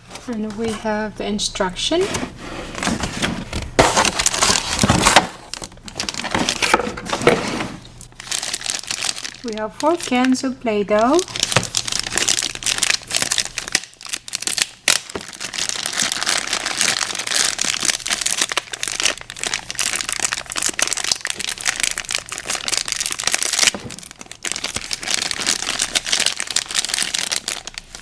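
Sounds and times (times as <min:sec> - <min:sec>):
plastic packaging crinkling: 0:02.8 - 0:28.0.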